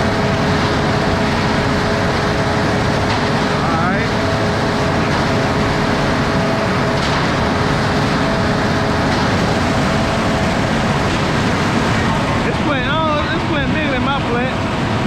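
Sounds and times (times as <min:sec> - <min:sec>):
concrete mixer drum turning: 0:00.0 - 0:14.5.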